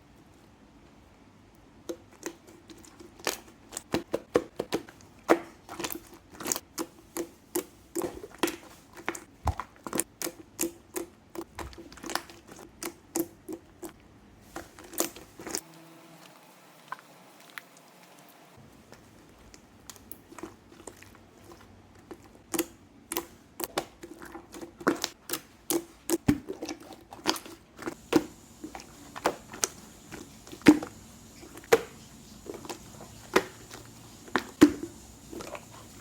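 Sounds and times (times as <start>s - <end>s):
slime squeezed with wet pops: 1.9s - 15.6s, 19.0s - 36.0s.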